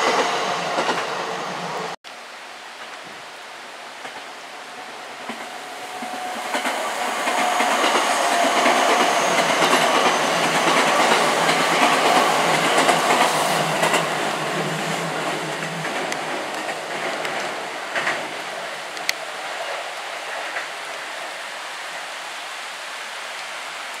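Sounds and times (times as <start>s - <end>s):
electric train rumbling past: 0.0s - 2.0s, 3.6s - 22.0s
heavy rain hiss: 0.0s - 24.0s.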